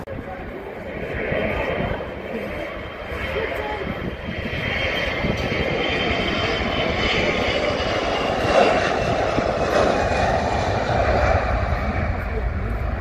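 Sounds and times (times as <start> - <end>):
deep rumble: 0.0 - 13.0
jet engines whining: 0.0 - 13.0.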